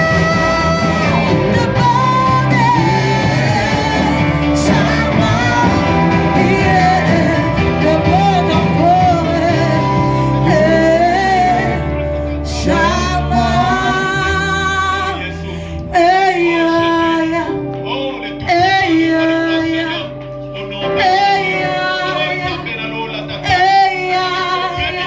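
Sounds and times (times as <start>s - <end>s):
instrumental accompaniment with bass: 0.0s - 25.0s
voices singing worship song: 0.0s - 25.0s.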